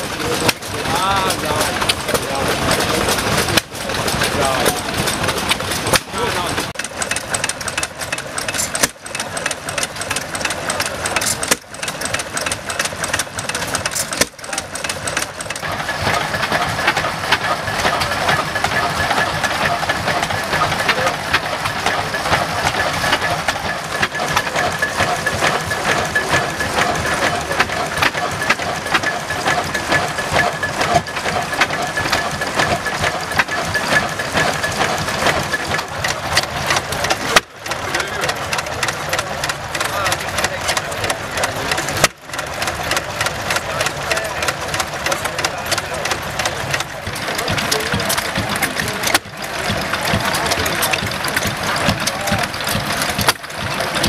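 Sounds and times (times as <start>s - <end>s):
stationary engines clattering: 0.0s - 54.0s
steady high engine whine: 0.0s - 54.0s.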